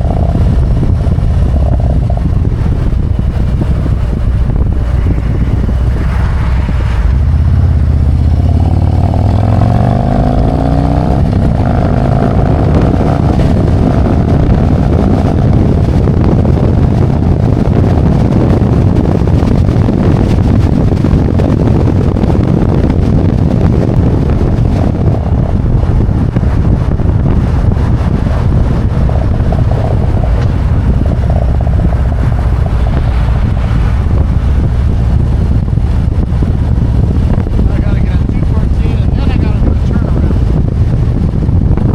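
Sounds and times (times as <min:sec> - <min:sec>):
motorcycle engine accelerating: 0:00.0 - 0:41.9
wind rushing over microphone: 0:00.0 - 0:41.9.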